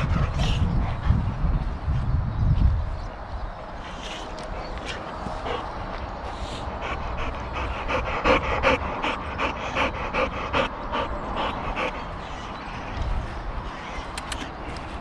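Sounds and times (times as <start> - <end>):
dog panting rapidly: 0.0 - 2.1, 3.8 - 15.0.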